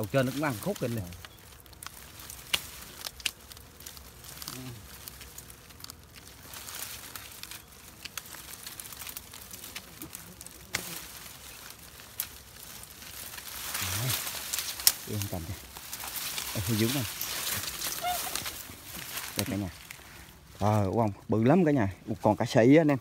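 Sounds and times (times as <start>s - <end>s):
twigs snapping: 0.0s - 21.2s
leaves and stems rustling: 0.0s - 23.0s.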